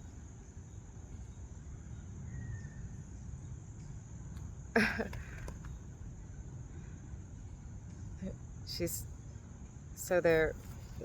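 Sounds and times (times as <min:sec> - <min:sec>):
crickets chirping: 0:00.0 - 0:11.0
low background rumble: 0:00.0 - 0:11.0.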